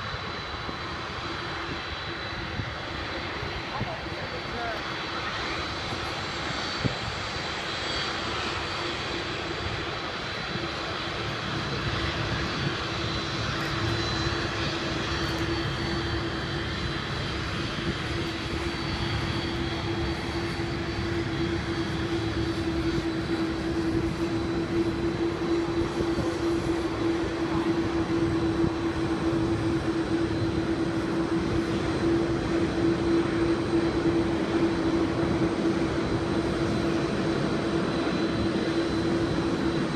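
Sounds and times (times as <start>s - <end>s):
jet engines humming and whining: 0.0s - 39.9s.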